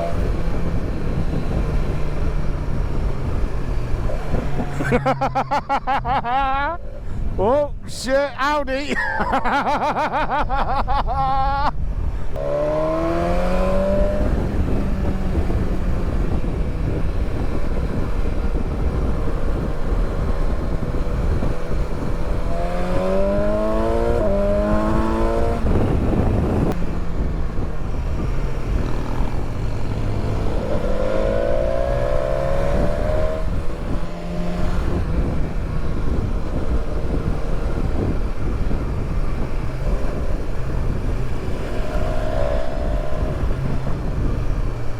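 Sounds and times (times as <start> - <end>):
motorcycle engine accelerating: 0.0 - 7.3, 9.5 - 44.9
wind rush: 0.0 - 44.9.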